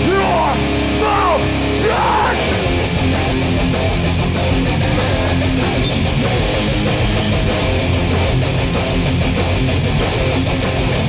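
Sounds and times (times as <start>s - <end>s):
distorted electric guitars strumming: 0.0s - 11.0s
punk band playing live: 0.0s - 11.0s.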